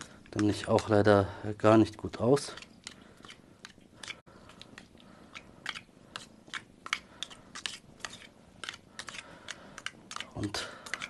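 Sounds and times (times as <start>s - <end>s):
utensil scraping a bowl: 0.0s - 11.0s.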